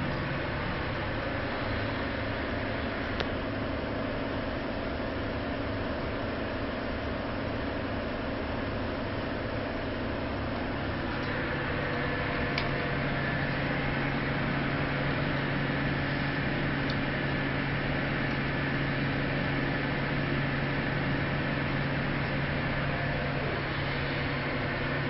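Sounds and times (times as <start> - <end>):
ship machinery drone: 0.0 - 25.0.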